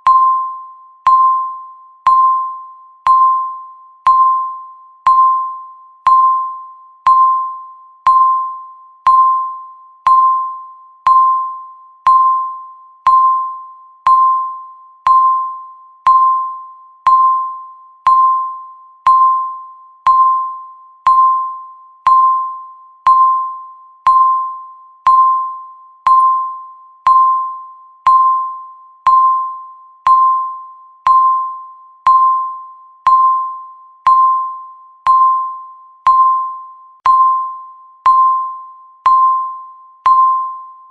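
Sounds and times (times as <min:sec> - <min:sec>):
countdown timer beeps: 0:00.0 - 0:40.9.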